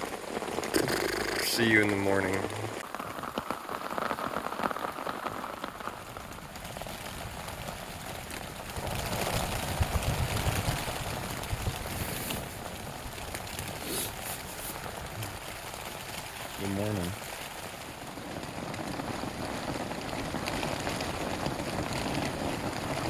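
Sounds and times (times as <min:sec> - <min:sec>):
rain falling on a tent: 0:00.0 - 0:23.0.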